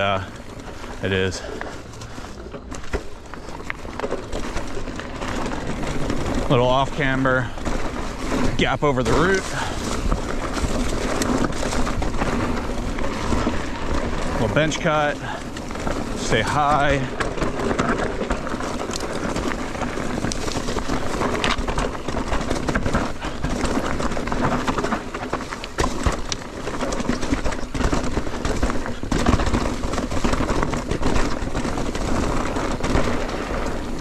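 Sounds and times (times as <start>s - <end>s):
bike knocks and rattles: 0.0s - 34.0s
tyre and wind rumble: 0.0s - 34.0s.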